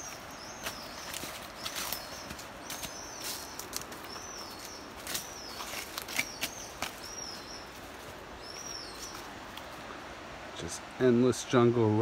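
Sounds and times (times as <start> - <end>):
footsteps crunching on trail: 0.0 - 9.8.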